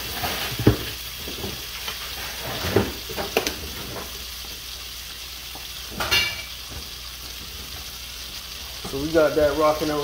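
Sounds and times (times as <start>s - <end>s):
butter sizzling in a skillet: 0.0s - 10.0s.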